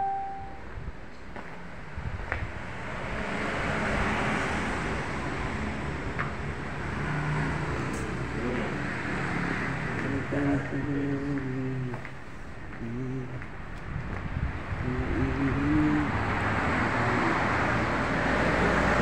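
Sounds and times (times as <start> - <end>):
low engine hum: 0.0 - 19.0
road traffic rushing by: 0.0 - 19.0.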